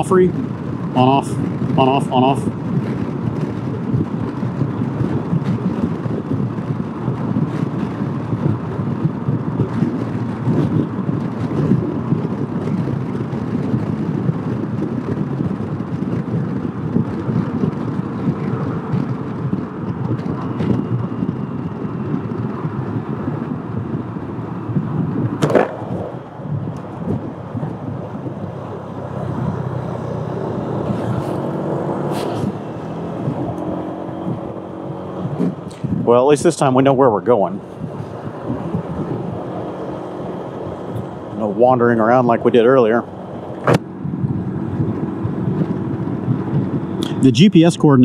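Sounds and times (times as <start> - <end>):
wind rushing: 0.0 - 47.6
road rush from scooter: 0.0 - 48.0.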